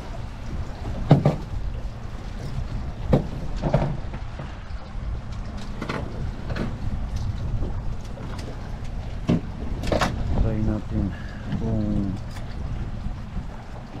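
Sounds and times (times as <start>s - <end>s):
boat engine low rumble: 0.0s - 14.0s
wind: 0.0s - 14.0s.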